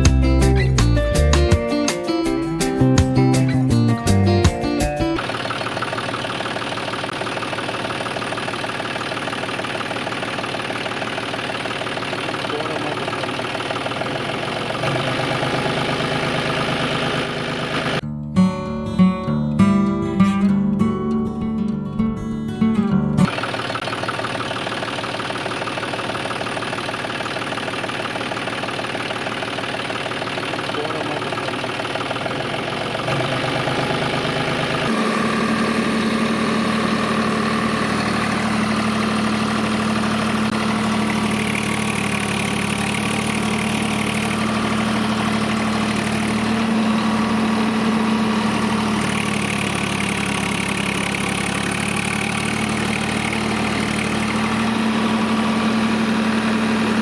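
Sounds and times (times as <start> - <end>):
engine-like drone: 5.0 - 18.0, 23.2 - 57.0.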